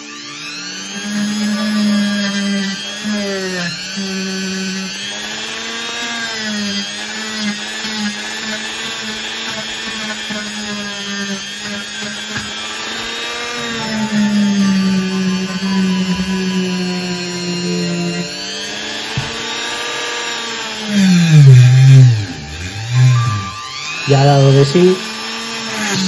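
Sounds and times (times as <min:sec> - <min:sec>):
rotary tool polishing metal: 0:00.0 - 0:26.0.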